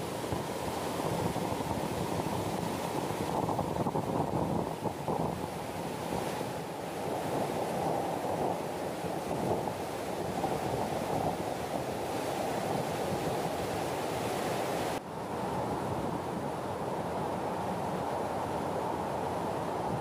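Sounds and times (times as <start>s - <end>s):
white water rushing down spillway: 0.0s - 20.0s.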